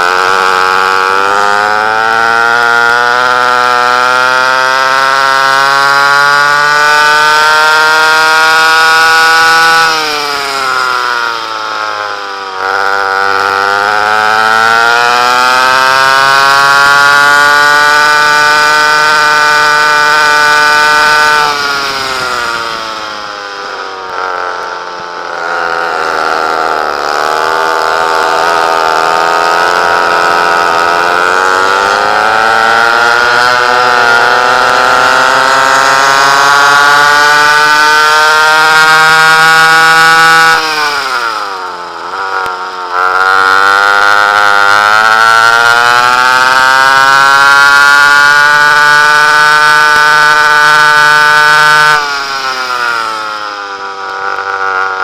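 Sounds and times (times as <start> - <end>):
kart engine at full throttle: 0.0 - 55.0.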